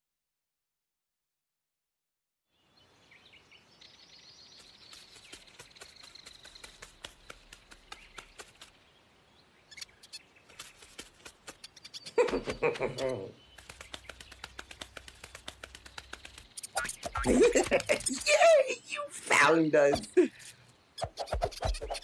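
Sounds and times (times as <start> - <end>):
birds chirping: 2.5 - 22.0.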